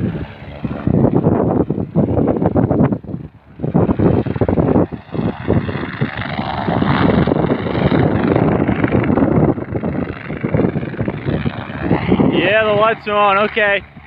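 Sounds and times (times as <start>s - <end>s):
helicopter rotor turning: 0.0s - 14.0s
wind buffeting microphone: 0.0s - 14.0s.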